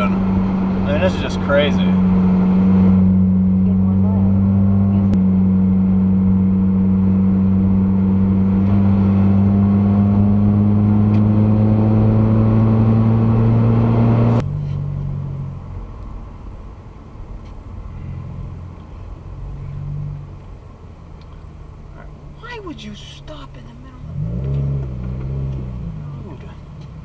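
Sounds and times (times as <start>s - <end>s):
cabin and road noise: 0.0s - 27.0s
car engine drone inside cabin: 0.0s - 27.0s.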